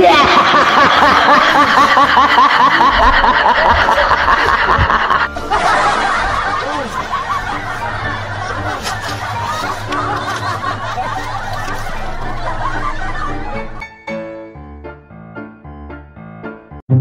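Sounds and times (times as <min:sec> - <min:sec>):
high-pitched snickering laughter: 0:00.0 - 0:13.8
music: 0:00.1 - 0:17.0.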